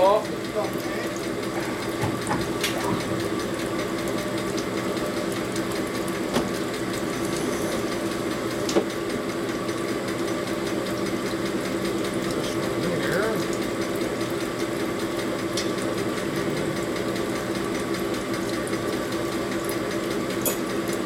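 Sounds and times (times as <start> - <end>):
honing machine humming: 0.0 - 20.0.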